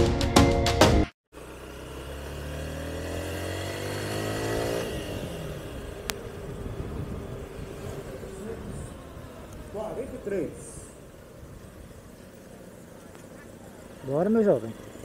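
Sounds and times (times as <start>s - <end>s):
motorcycle engine revving: 1.3s - 15.0s.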